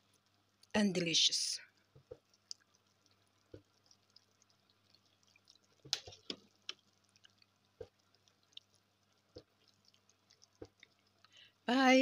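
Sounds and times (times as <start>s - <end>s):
soup simmering with bubble pops: 0.0s - 0.8s, 1.6s - 12.0s.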